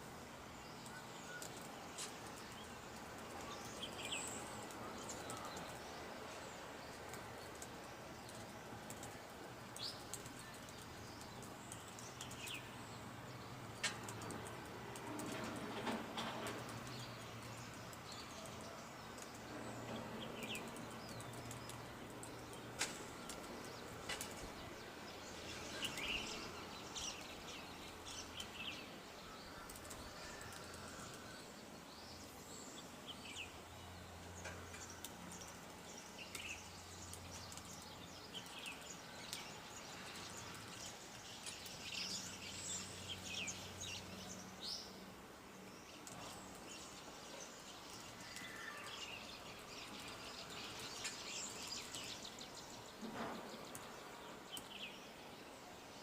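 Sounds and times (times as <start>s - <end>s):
small birds chirping: 0.2s - 56.0s.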